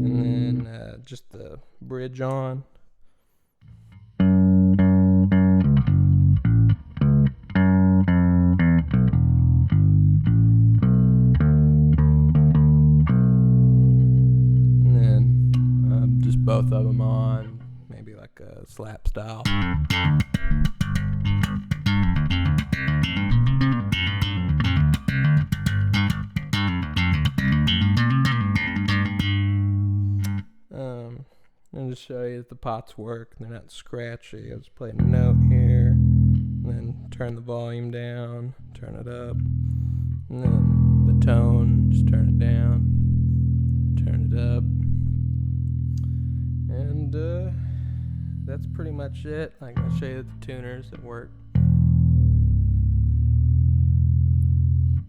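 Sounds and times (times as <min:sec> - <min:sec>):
electric bass plucked notes: 0:00.0 - 0:00.8, 0:04.0 - 0:18.0, 0:19.4 - 0:30.6, 0:35.0 - 0:55.0.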